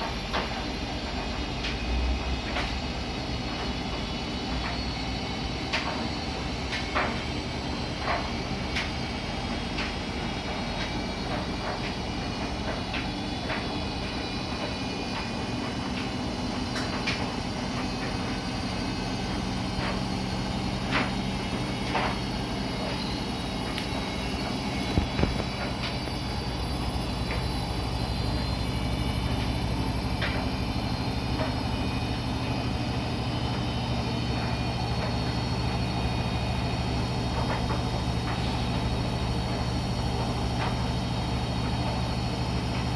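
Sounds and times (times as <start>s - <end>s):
washing machine spinning: 0.0s - 42.9s.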